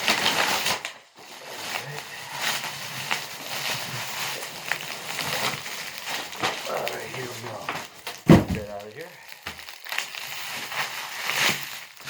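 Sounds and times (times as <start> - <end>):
packing material rustling: 0.0 - 12.0.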